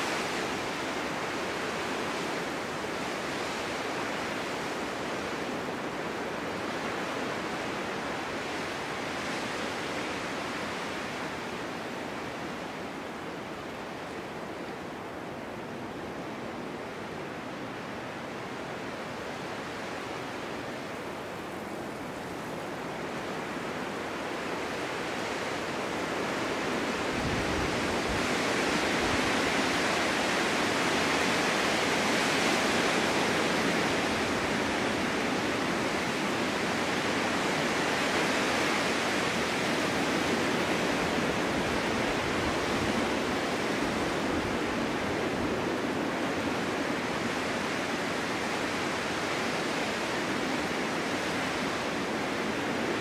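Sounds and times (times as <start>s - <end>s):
snowstorm wind blowing: 0.0s - 53.0s.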